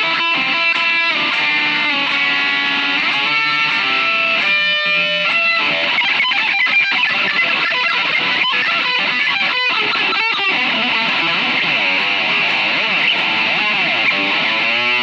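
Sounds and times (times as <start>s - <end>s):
fast electric guitar lead: 0.0s - 15.0s.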